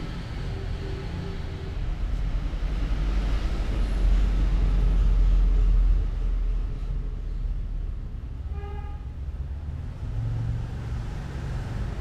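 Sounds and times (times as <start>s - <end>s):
road vehicle passing: 0.0s - 8.4s, 9.2s - 12.0s.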